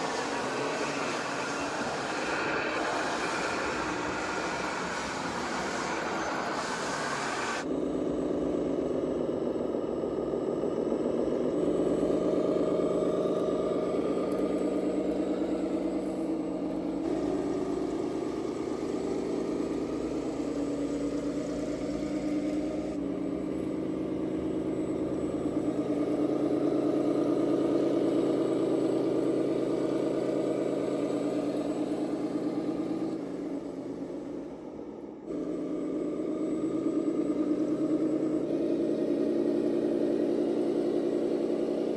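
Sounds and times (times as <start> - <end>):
model vehicle motor drone: 0.0 - 41.9.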